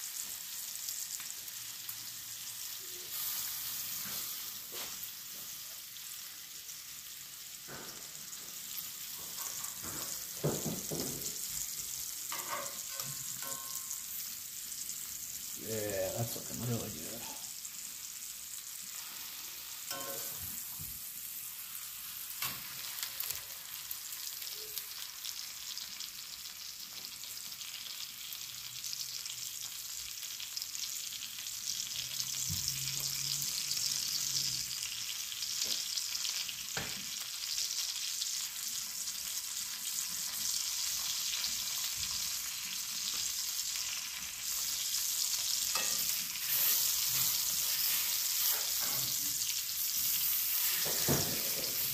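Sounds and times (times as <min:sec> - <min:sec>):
steaks sizzling in butter: 0:00.0 - 0:51.9.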